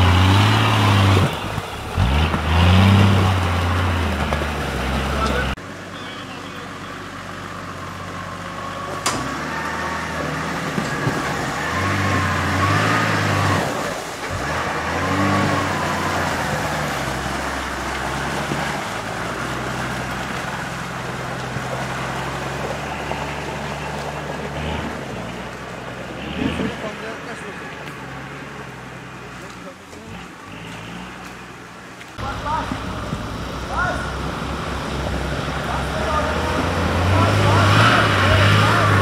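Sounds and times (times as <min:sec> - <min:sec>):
diesel engine under load: 0:00.0 - 0:39.0.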